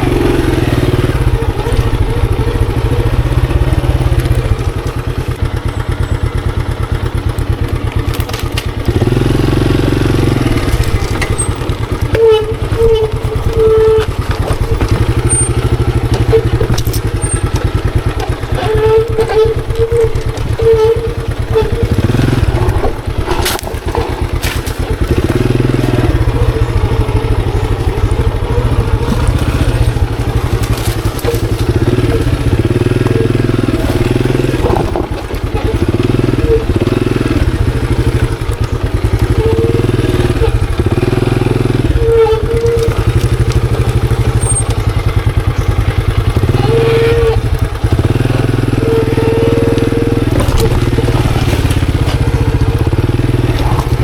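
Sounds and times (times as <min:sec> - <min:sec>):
motorcycle engine running under load: 0:00.0 - 0:54.0.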